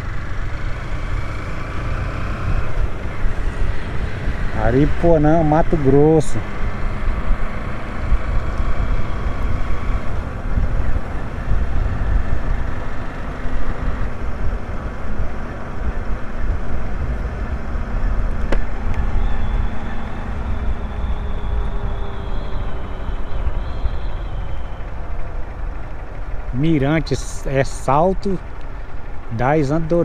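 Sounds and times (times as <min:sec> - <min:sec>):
motorcycle riding on road: 0:00.0 - 0:30.0
wind rumble on microphone: 0:01.4 - 0:30.0.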